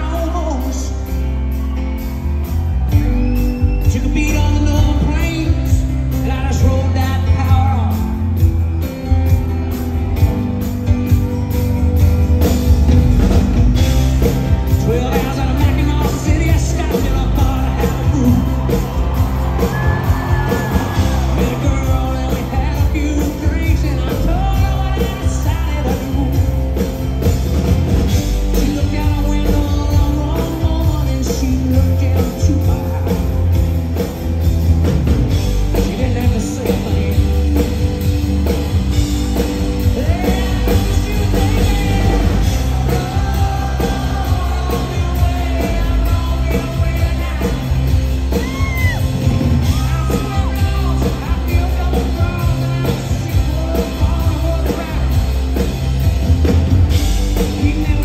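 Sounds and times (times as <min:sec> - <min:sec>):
person singing: 0:00.0 - 0:02.1, 0:03.7 - 0:08.5, 0:13.8 - 0:27.1, 0:28.2 - 0:33.8, 0:35.4 - 0:55.7, 0:56.7 - 0:58.0
live rock band playing: 0:00.0 - 0:58.0.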